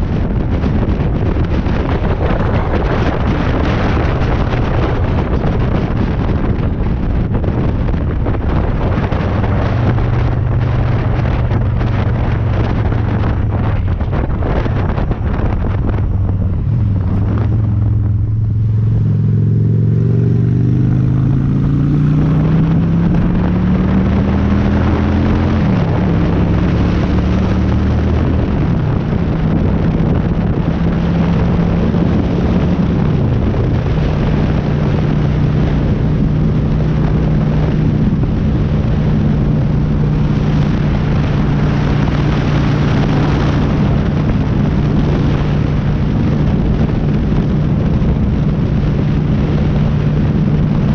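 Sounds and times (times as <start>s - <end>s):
motorcycle engine accelerating: 0.0s - 50.9s
wind noise on microphone: 0.0s - 50.9s.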